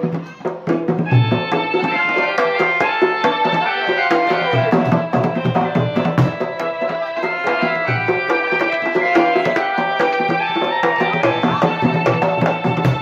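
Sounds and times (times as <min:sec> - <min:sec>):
hand drums: 0:00.0 - 0:13.0
ringing pitched melody: 0:01.1 - 0:13.0.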